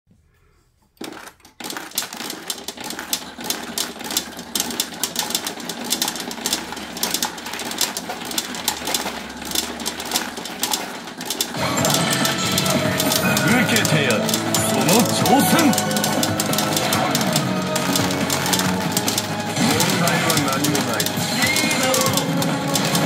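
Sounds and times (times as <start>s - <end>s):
steel balls clattering in machine: 1.0s - 23.0s.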